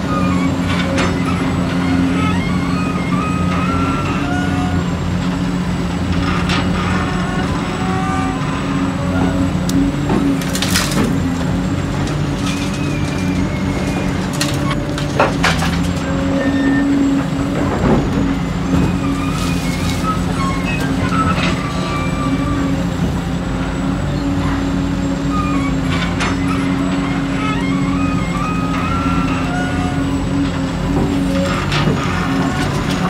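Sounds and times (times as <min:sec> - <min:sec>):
excavator engine working: 0:00.0 - 0:33.0.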